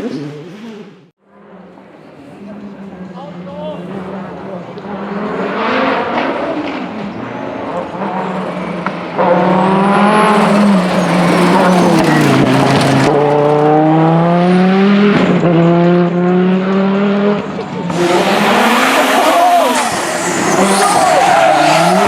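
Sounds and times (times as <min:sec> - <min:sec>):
rally car engine revving: 0:02.8 - 0:22.0.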